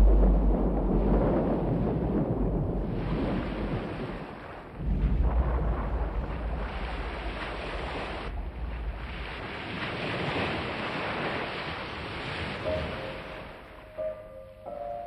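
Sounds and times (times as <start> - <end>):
waves washing over pebbles: 0.0 - 13.7
wind rumbling on microphone: 0.0 - 14.0.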